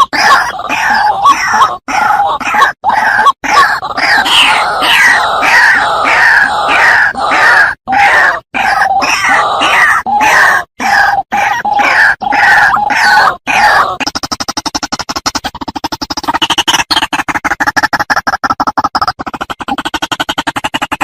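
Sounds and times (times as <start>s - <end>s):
waterhen harsh calls: 0.0s - 14.2s, 14.9s - 20.6s.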